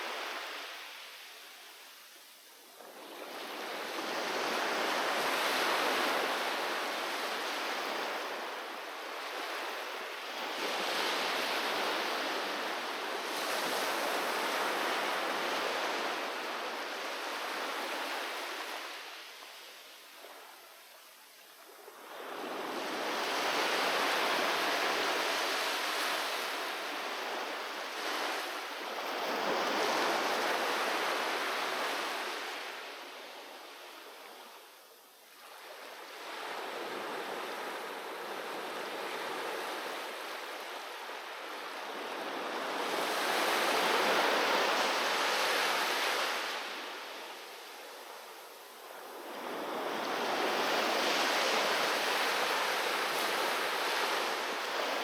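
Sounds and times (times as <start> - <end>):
waves breaking on beach: 0.0 - 2.0, 2.7 - 20.7, 21.6 - 34.7, 35.4 - 55.0.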